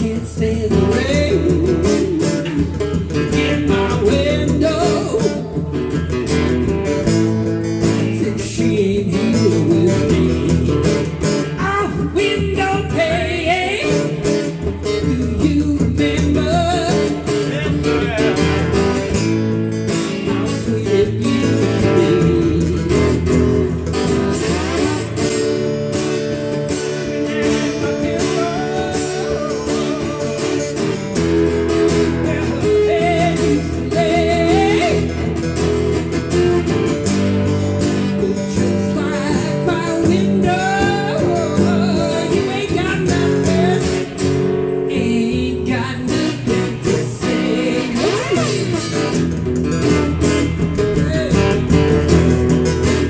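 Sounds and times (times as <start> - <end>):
man singing: 0.0 - 25.3, 26.5 - 35.6, 36.3 - 53.0
acoustic guitar strumming: 0.0 - 53.0.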